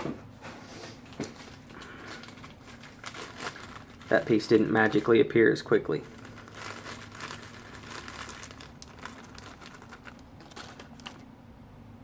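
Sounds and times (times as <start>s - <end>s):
crinkling and rustling: 0.0s - 11.3s.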